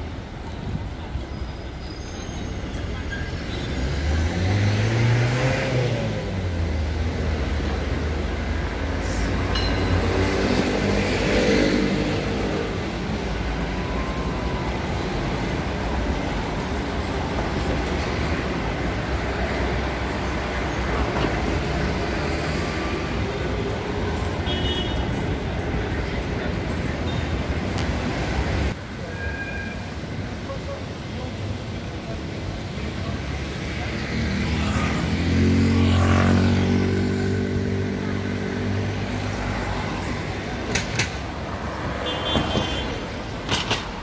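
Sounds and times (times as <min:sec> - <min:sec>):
traffic rumble: 0:00.0 - 0:44.0
vehicles passing close by: 0:00.0 - 0:44.0.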